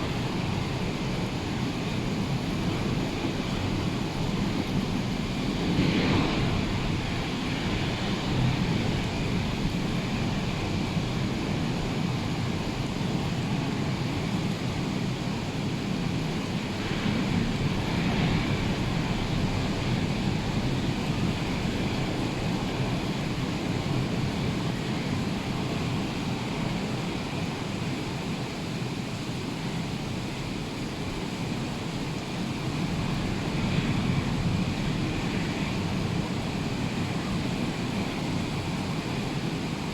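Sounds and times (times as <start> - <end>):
rough sea surf: 0.0 - 27.8, 31.0 - 39.9
wind: 0.0 - 39.9.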